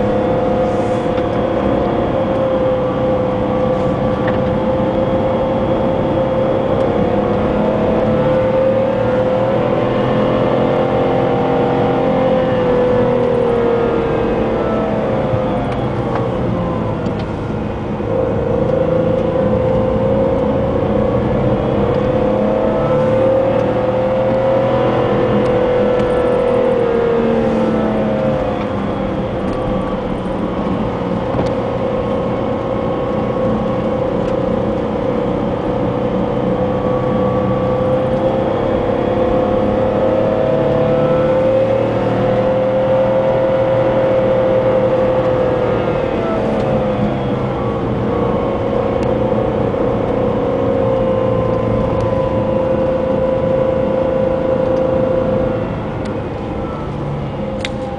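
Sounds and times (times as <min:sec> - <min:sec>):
car engine hum: 0:00.0 - 0:57.9.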